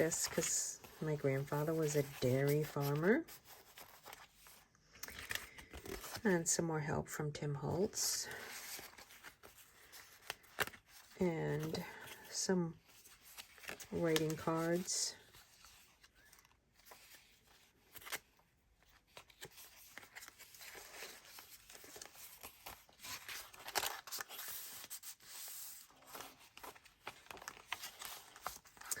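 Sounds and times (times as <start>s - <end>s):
paper rustling and crinkling: 0.0s - 6.2s, 8.2s - 29.0s.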